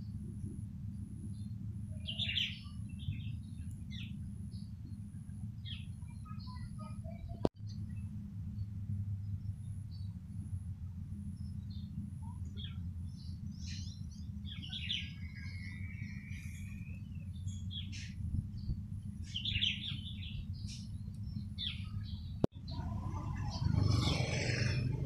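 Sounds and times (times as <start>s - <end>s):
low background rumble: 0.0s - 25.0s
sparrows chirping: 0.9s - 8.1s, 11.2s - 25.0s.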